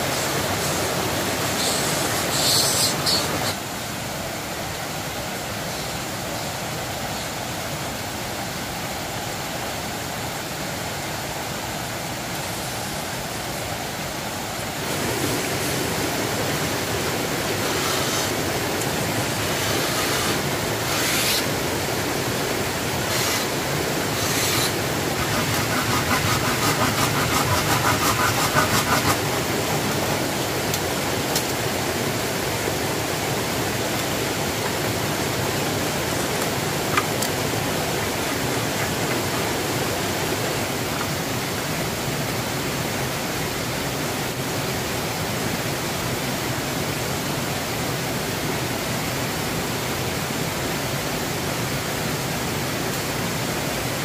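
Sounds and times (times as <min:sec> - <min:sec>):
steady rushing outdoor noise: 0:00.0 - 0:54.0.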